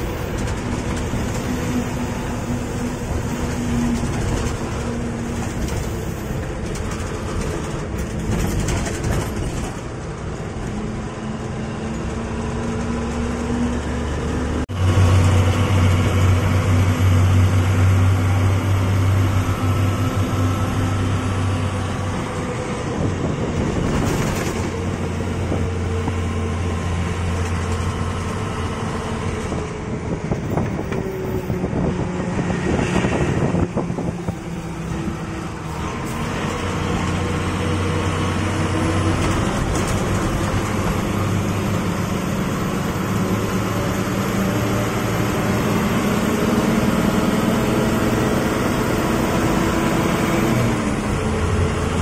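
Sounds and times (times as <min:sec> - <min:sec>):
bus engine running: 0:00.0 - 0:52.0
road and wind noise: 0:00.0 - 0:52.0.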